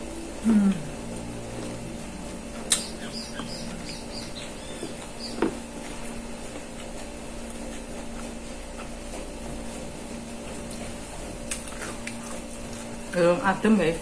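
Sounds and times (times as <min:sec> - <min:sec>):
person eating by hand: 0:00.0 - 0:13.2
steady low hum: 0:00.0 - 0:14.0.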